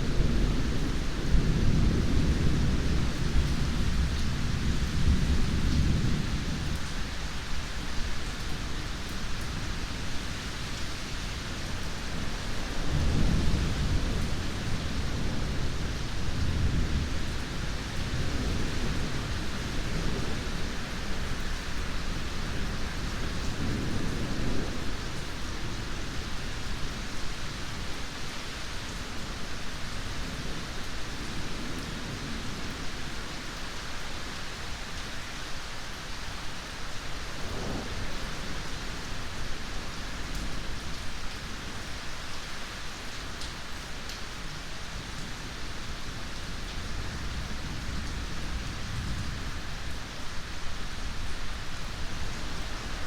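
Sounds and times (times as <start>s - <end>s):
rain hissing: 0.0s - 53.0s.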